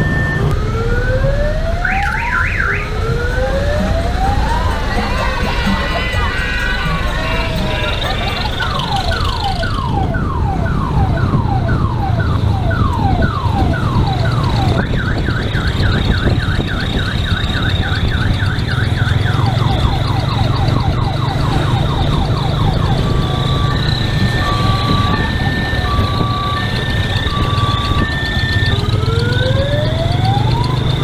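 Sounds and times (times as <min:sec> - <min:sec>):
electronic siren wailing: 0:00.0 - 0:31.0
vehicle engine running: 0:00.0 - 0:31.0.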